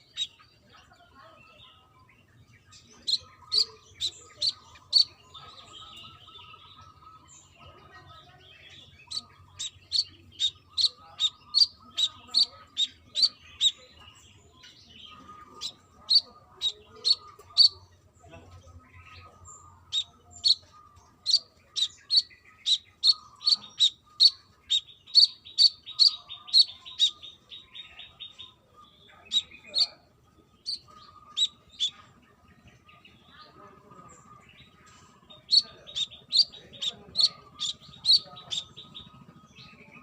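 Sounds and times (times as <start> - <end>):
bird chipping and trilling: 0.0 - 40.0.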